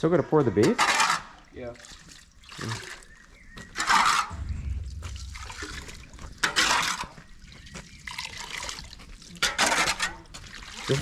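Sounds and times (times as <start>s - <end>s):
water trickling and splashing: 0.8s - 11.0s.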